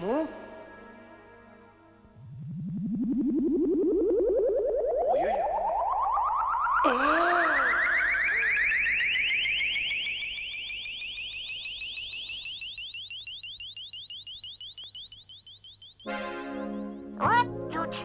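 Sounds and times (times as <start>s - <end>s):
rapid rising electronic chirps: 2.1s - 17.7s.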